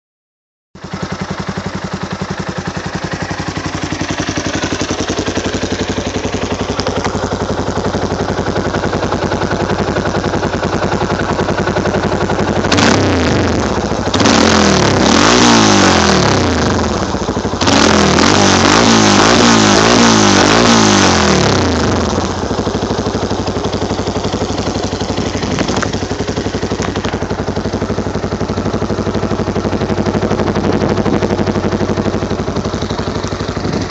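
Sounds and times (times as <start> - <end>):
quad engine idling and revving: 0.8 - 33.9.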